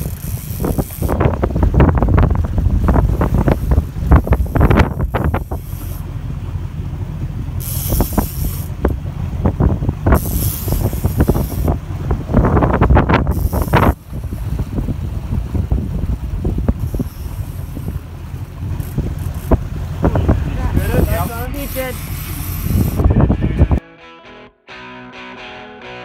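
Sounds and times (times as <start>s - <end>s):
wind buffeting microphone: 0.0s - 23.8s.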